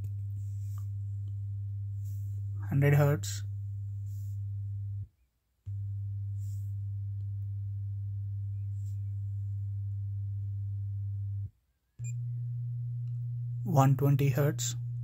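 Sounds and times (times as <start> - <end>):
steady low test tone: 0.0 - 5.1, 5.7 - 15.0.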